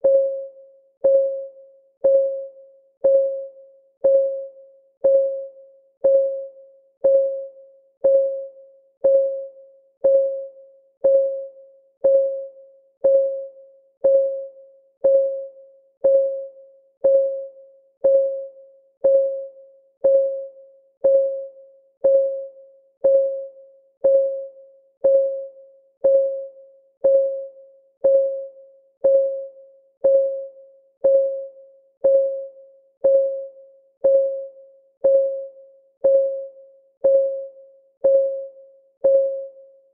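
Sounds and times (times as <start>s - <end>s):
timer ticking pings: 0.0s - 39.6s.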